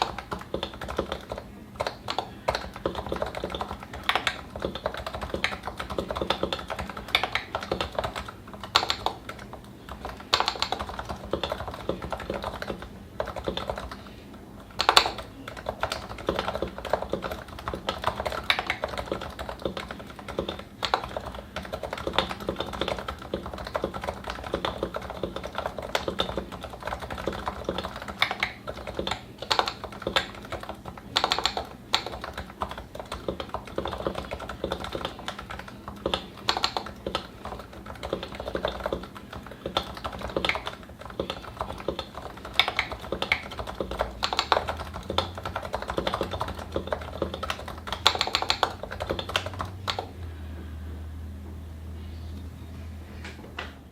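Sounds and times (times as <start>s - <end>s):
fast typing on keyboard: 0.0s - 50.2s.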